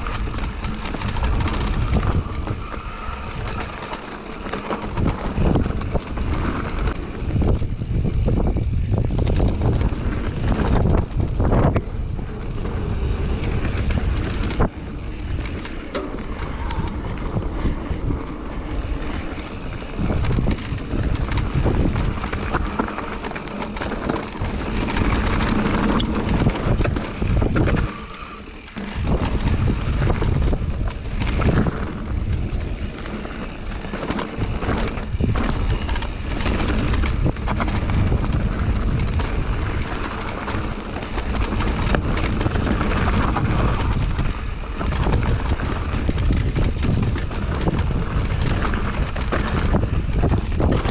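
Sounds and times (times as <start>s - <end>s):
bike clattering over bumps: 0.0s - 50.9s
bike tyre noise: 0.0s - 50.9s
wind rushing over microphone: 0.0s - 50.9s.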